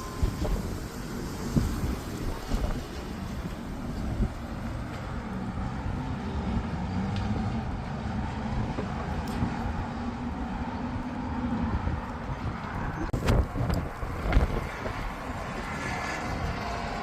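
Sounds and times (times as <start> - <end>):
city traffic noise: 0.0 - 17.0
wind buffeting microphone: 0.0 - 17.0.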